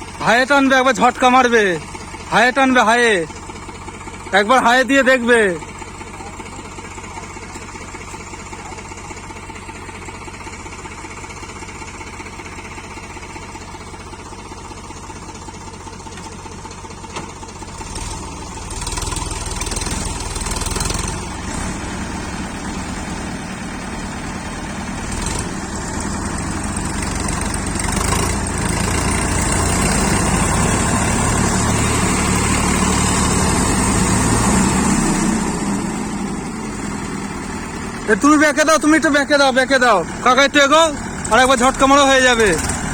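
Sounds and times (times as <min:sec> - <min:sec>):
diesel tractor engines revving: 0:00.0 - 0:42.9.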